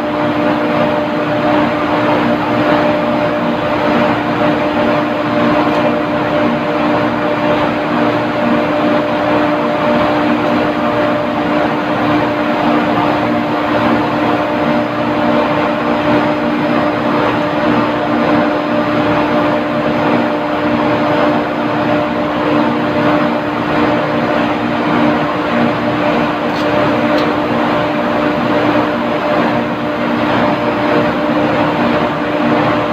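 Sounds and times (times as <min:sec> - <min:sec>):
machinery droning hum: 0:00.0 - 0:32.9.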